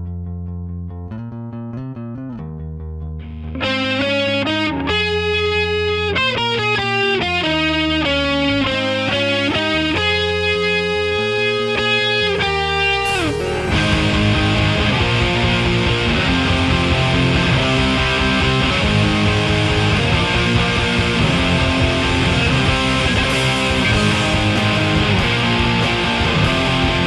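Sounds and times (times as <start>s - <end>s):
electric guitar riff: 3.1s - 27.0s
distorted strummed guitar chord: 3.3s - 27.0s.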